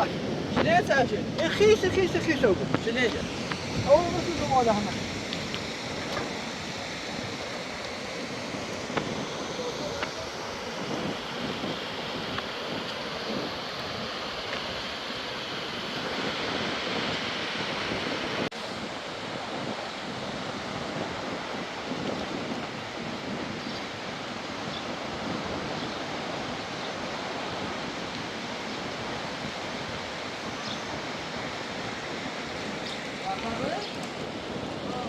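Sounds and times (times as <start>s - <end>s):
rainstorm rushing: 0.0s - 35.0s
wind buffeting microphone: 0.0s - 35.0s.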